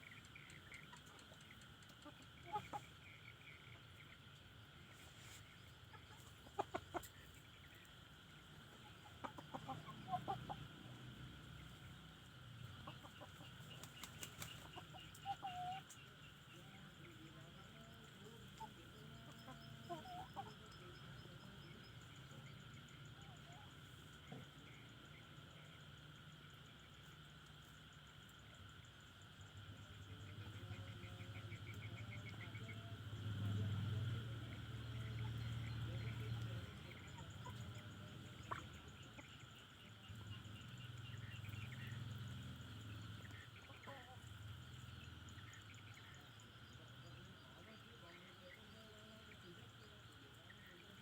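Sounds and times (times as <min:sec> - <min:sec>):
chickens clucking: 0:00.0 - 0:51.0
faint background drone: 0:00.0 - 0:51.0.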